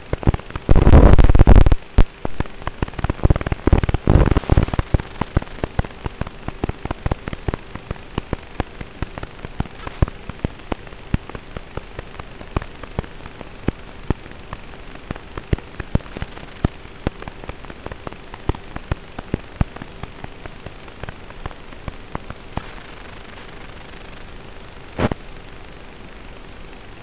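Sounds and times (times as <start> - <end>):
faint constant hum: 0.0 - 27.0
static crackles and pops: 0.0 - 27.0
steady hiss: 0.0 - 27.0.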